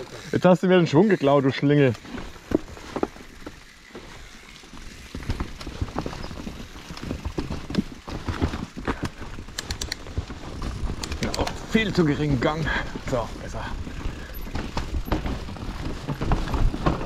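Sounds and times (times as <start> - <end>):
mountain bike clattering over trail: 0.0 - 17.0.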